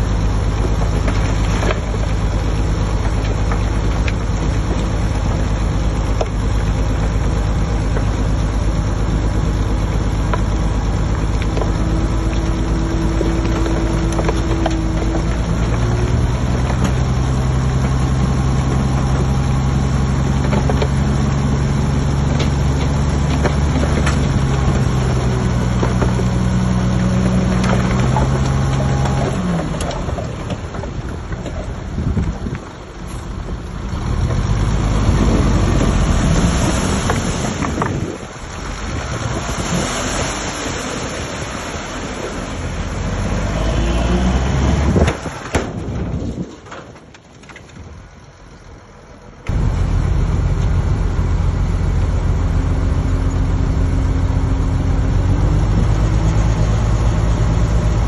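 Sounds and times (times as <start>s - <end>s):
heavy diesel engine drone: 0.0s - 46.8s, 47.9s - 58.0s.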